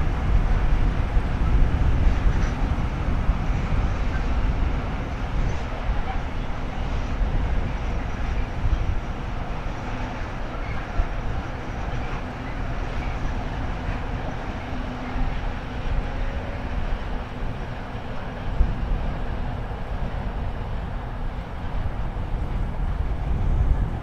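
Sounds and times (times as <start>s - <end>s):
train wheels on rails: 0.0s - 24.0s
wind buffeting microphone: 0.0s - 24.0s.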